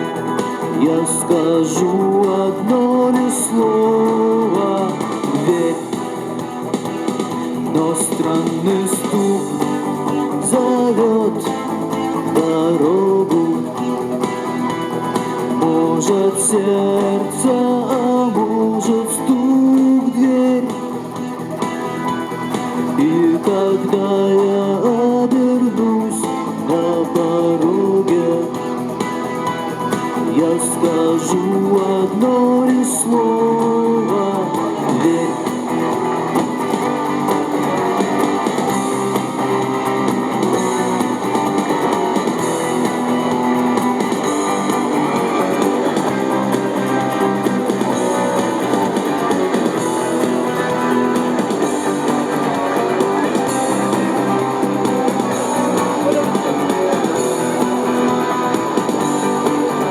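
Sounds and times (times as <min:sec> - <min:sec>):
bass line: 0:00.0 - 0:59.9
strummed and plucked guitars: 0:00.0 - 0:59.9.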